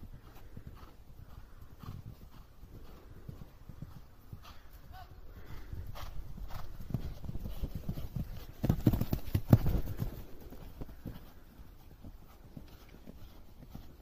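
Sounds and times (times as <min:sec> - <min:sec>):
horse hoofbeats on sand: 0:00.1 - 0:14.0.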